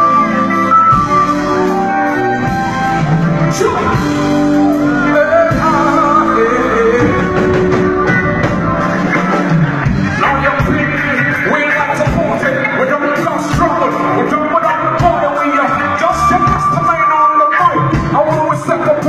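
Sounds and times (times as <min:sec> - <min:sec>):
guitar: 0:00.0 - 0:19.0
live band music: 0:00.0 - 0:19.0
person singing: 0:01.6 - 0:19.0.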